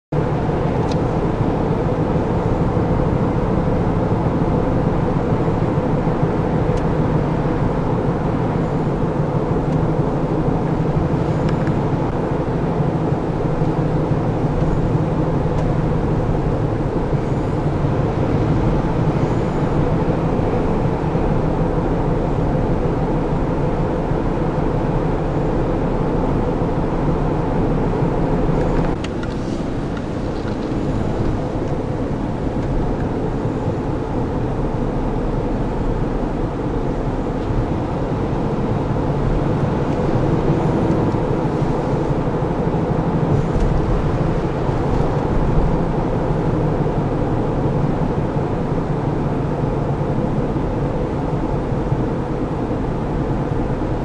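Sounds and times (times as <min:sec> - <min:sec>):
engine and road noise: 0:00.1 - 0:54.0.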